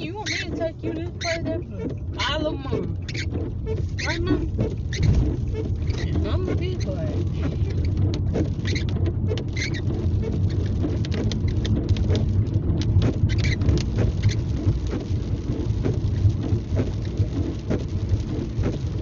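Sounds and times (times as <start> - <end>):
car driving on wet road: 0.0 - 19.0
rain pattering on car: 0.0 - 19.0.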